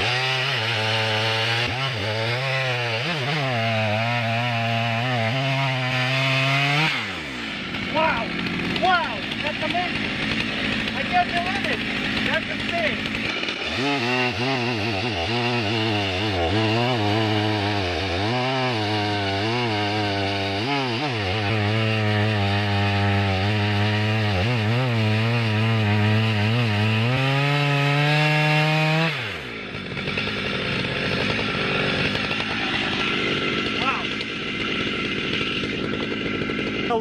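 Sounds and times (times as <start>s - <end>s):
chainsaw cutting a log: 0.0s - 37.0s
chainsaw idling: 0.0s - 37.0s.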